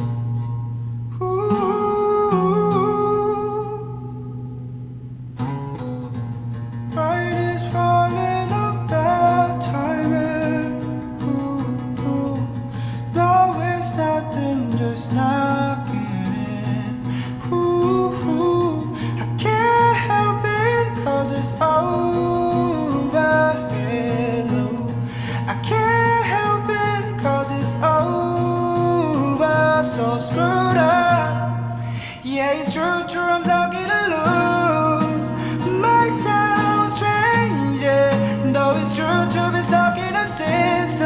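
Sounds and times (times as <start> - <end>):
acoustic guitar: 0.0 - 41.0
man singing: 1.2 - 4.3, 6.9 - 41.0.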